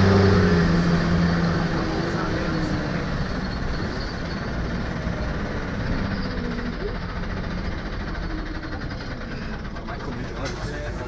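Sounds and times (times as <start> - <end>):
bus engine rumble: 0.0 - 11.0
road noise: 0.0 - 11.0.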